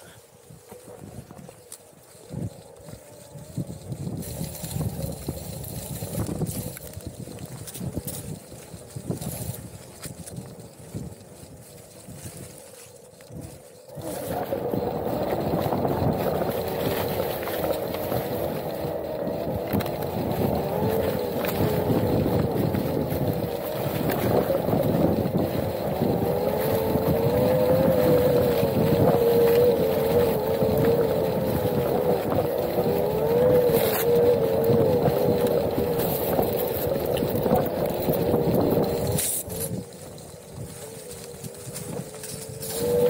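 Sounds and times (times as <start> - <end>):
tyre rumbling on dirt trail: 0.0 - 43.0
electric motor whining: 0.6 - 43.0.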